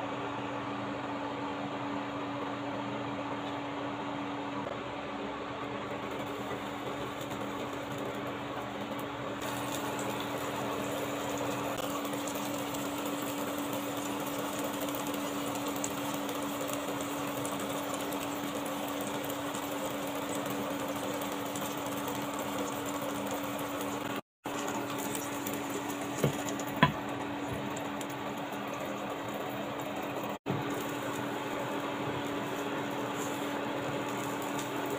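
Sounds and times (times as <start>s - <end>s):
oil sizzling in a frying pan: 6.0s - 34.9s.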